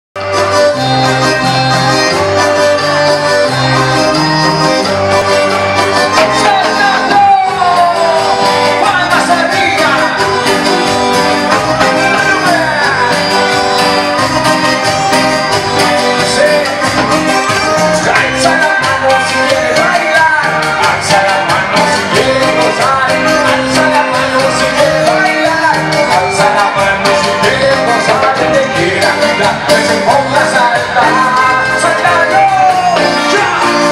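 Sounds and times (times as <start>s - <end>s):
bass line: 0.2s - 33.9s
drums: 0.2s - 33.9s
live latin dance band: 0.2s - 33.9s
reedy melody: 0.2s - 33.9s
lead singer singing: 6.0s - 33.9s.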